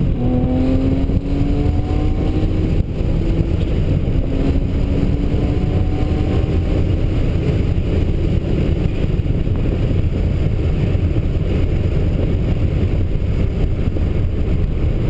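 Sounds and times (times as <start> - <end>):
car engine low rumble: 0.0 - 15.0
road noise: 0.0 - 15.0.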